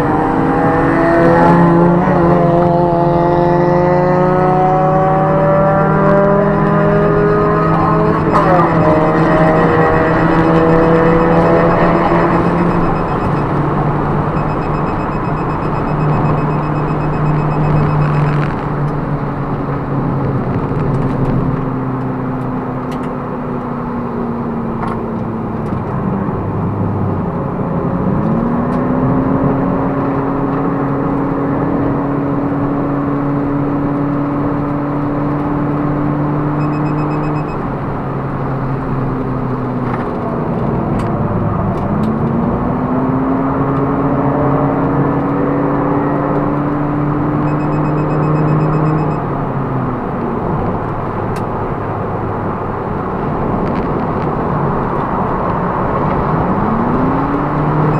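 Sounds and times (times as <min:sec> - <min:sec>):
car engine running hard: 0:00.0 - 0:57.9
road and wind noise: 0:00.0 - 0:57.9.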